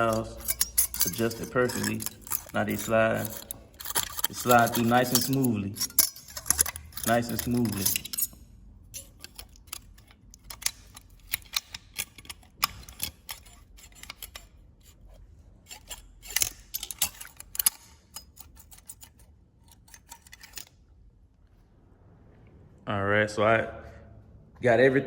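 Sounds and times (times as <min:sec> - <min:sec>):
metal tools clicking and clinking: 0:00.0 - 0:20.8.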